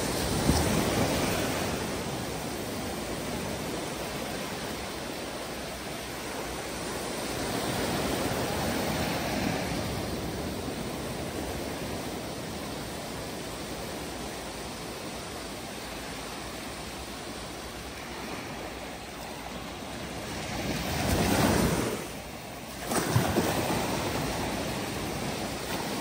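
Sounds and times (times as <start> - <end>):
small waves breaking on shore: 0.0 - 26.0.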